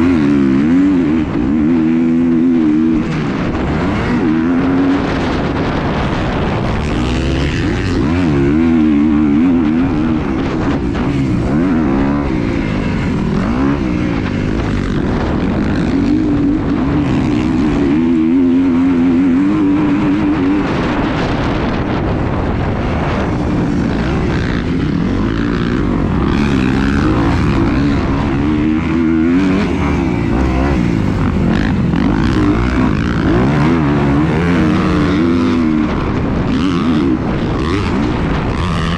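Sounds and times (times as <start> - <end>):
wind rumble on microphone: 0.0 - 38.9.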